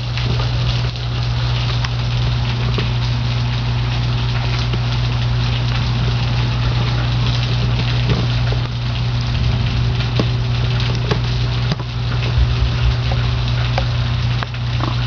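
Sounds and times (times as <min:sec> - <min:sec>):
constant low hum: 0:00.0 - 0:15.0
rain hissing: 0:00.0 - 0:15.0.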